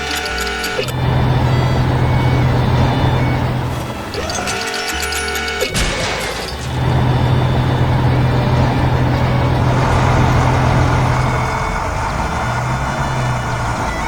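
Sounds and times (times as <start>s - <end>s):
construction vehicle engine humming: 0.0s - 14.0s.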